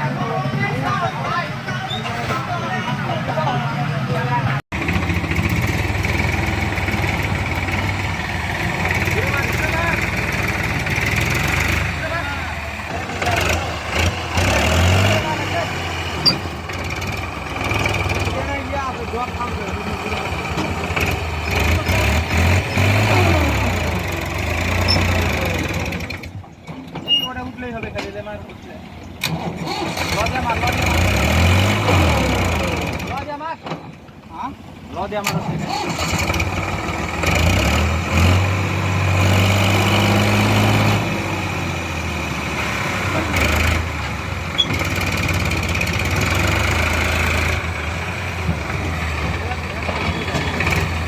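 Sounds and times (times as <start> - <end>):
diesel engine droning: 0.0 - 51.0.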